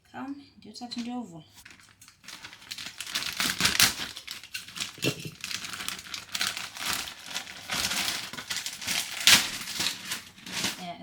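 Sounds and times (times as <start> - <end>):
packaging crinkling and rustling: 1.6 - 11.0.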